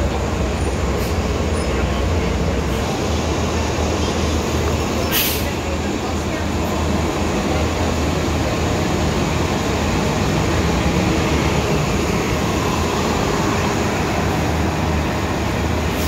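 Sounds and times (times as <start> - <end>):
bus engine drone: 0.0 - 16.0
traffic and road noise: 0.0 - 16.0.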